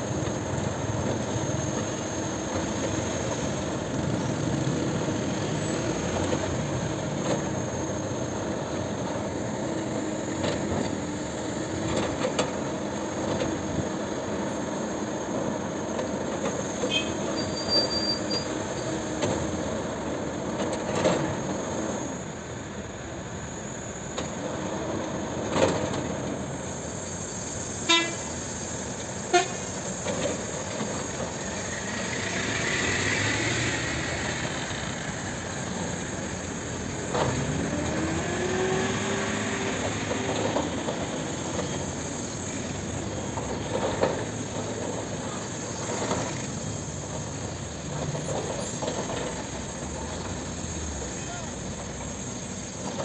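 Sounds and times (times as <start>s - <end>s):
dump truck diesel engine: 0.0s - 53.0s
excavator diesel engine under load: 0.0s - 53.0s.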